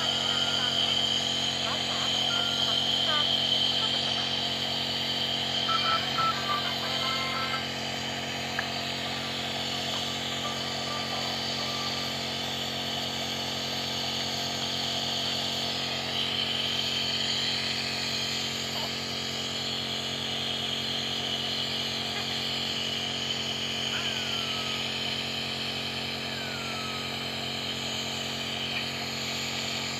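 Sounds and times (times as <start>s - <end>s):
nebulizer motor hum: 0.0s - 29.9s.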